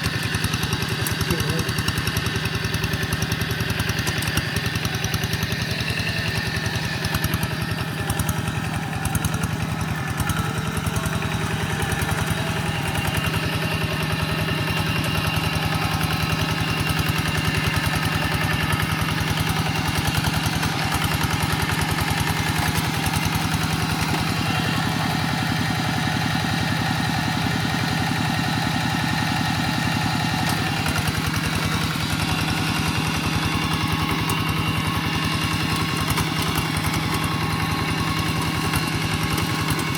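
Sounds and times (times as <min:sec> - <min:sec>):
walking tractor engine running: 0:00.0 - 0:39.9.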